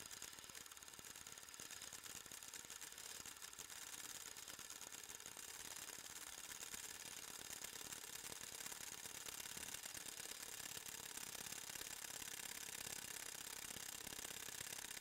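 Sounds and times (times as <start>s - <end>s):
film projector whirring: 0.0s - 15.0s.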